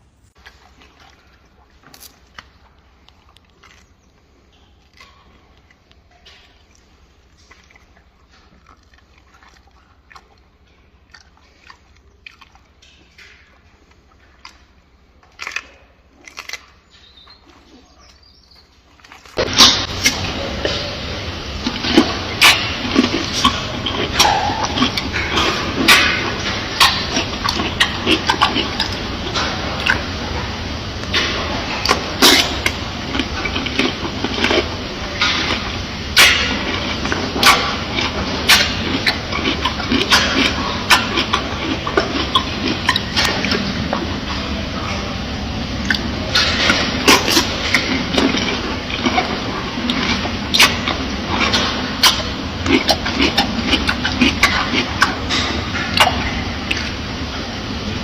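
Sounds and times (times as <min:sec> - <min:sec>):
gorilla chewing and biting food: 0:00.3 - 0:58.0.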